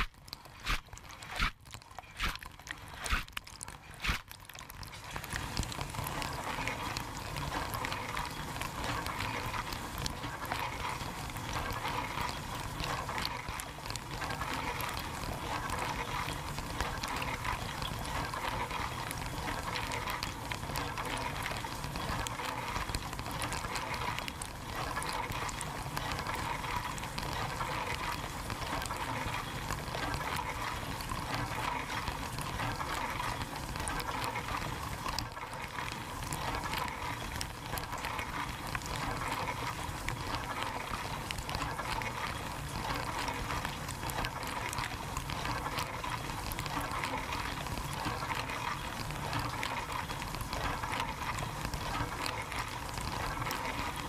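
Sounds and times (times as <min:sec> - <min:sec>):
droplets ticking on camera: 0:00.0 - 0:54.0.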